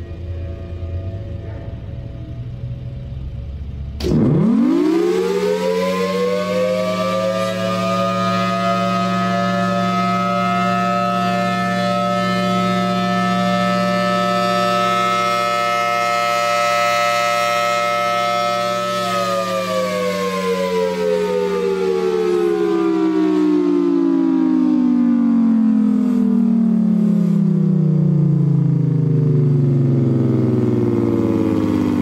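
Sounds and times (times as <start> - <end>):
warning siren winding down: 0.0 - 32.0.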